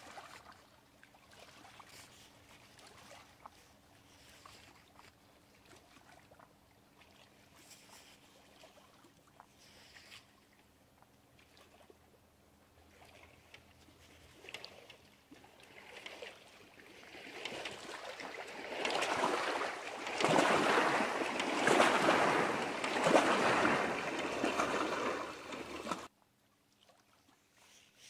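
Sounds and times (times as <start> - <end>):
waves lapping against dock: 0.0 - 12.1, 12.7 - 26.1.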